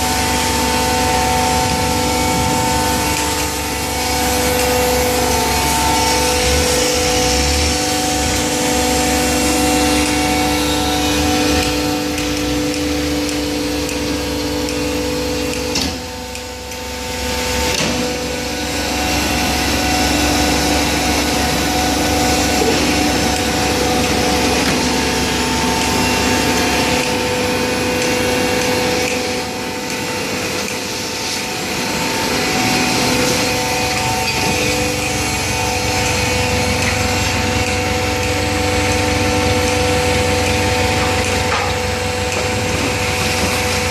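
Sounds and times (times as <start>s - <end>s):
hydraulic baler humming and whining: 0.0s - 43.9s.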